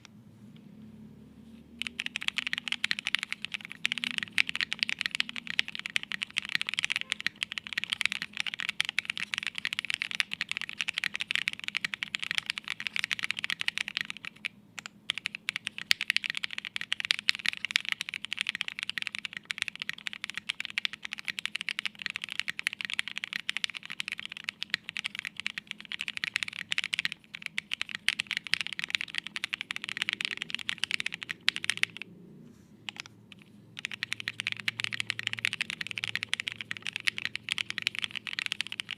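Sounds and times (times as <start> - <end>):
mechanical keyboard typing: 1.7 - 32.2, 32.8 - 38.9.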